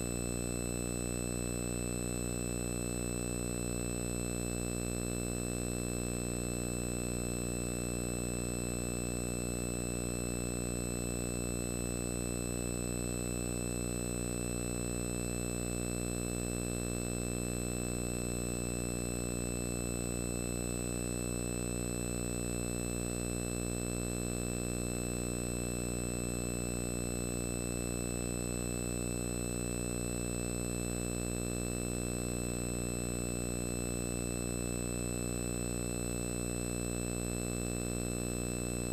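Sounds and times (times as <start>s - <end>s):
electrical hum with high whine: 0.0s - 38.9s.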